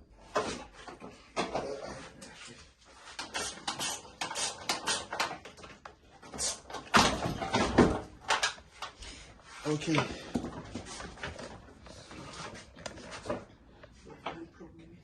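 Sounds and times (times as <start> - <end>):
tools clattering and knocking: 0.2 - 2.4, 3.0 - 13.6.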